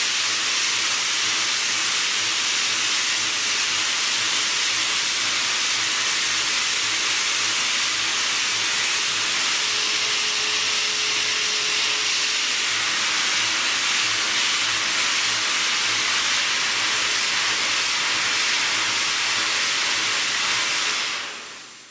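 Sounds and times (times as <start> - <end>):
milling machine hiss: 0.0 - 21.9.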